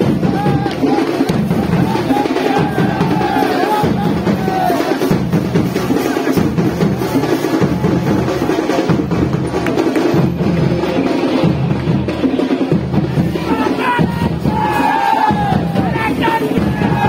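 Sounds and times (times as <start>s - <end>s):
fast loud drumming: 0.0s - 17.0s.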